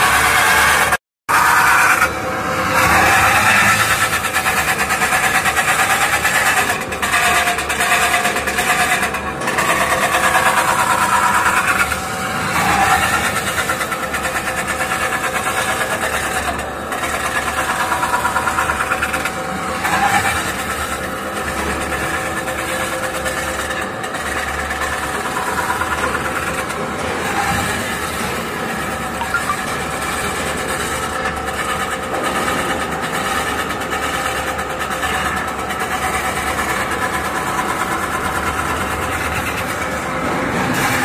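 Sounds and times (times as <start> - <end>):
metal spinning machine whirring: 0.0 - 41.0.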